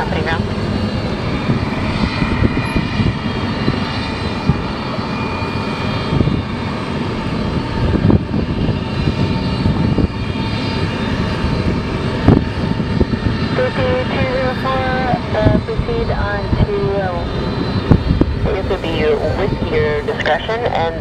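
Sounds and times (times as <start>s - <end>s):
jet engines whining: 0.0s - 21.0s
low rumble: 0.0s - 21.0s.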